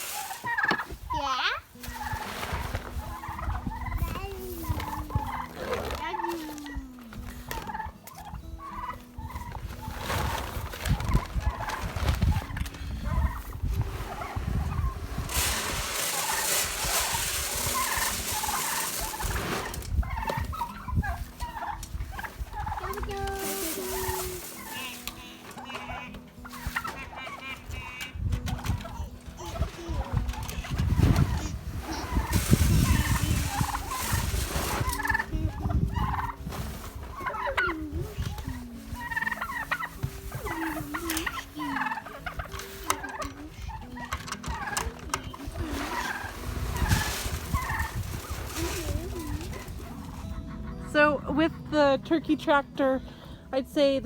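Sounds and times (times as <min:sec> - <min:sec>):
turkeys calling and gobbling: 0:00.0 - 0:53.4.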